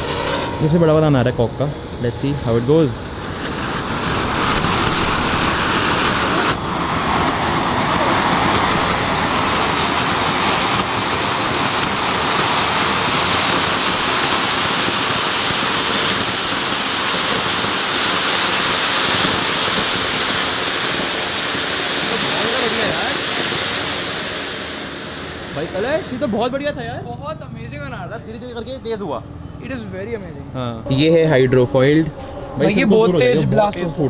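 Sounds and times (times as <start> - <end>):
firework fountain hissing: 0.0 - 29.1.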